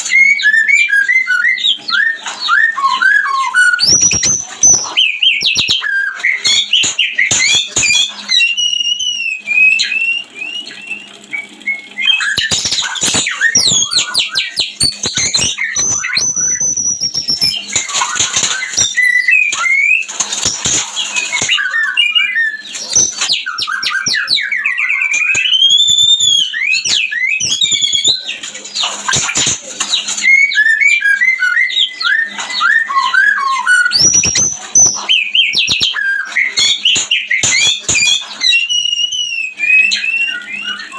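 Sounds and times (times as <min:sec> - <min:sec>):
birds singing and calling: 0:00.0 - 0:40.9.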